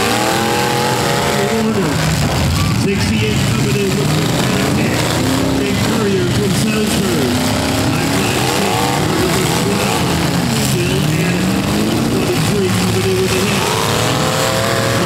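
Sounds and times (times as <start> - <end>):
car engines running and revving: 0.0 - 15.0.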